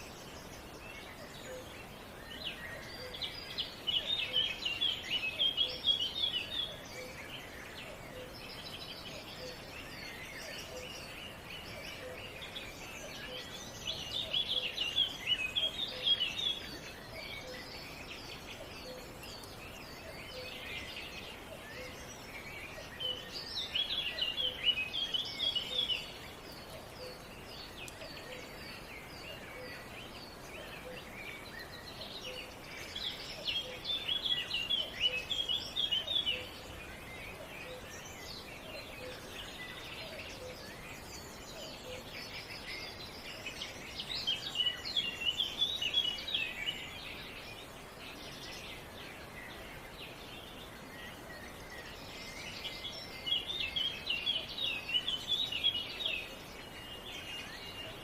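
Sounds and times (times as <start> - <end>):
songbirds chirping: 0.0 - 58.0
steady outdoor hiss: 0.0 - 58.0.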